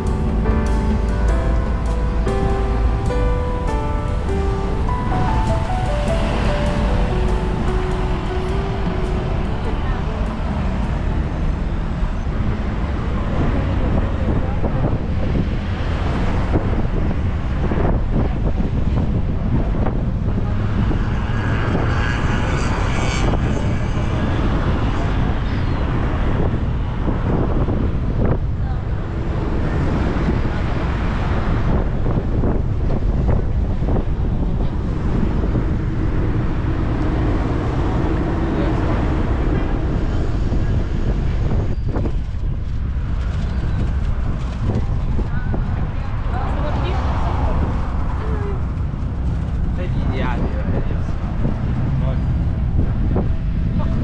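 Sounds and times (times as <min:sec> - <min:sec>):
engine and traffic noise: 0:00.0 - 0:54.0
wind buffeting microphone: 0:00.0 - 0:54.0.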